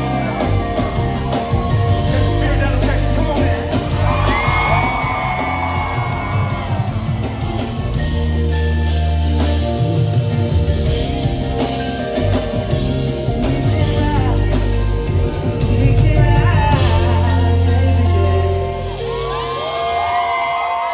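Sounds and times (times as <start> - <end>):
heavy bass: 0.0 - 19.6
live rock band with singer: 0.0 - 20.9.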